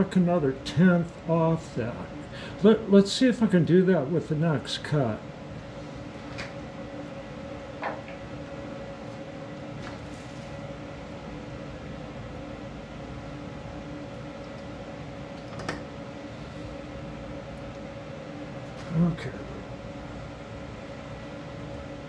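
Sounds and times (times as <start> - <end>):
workshop hum: 0.0 - 22.0.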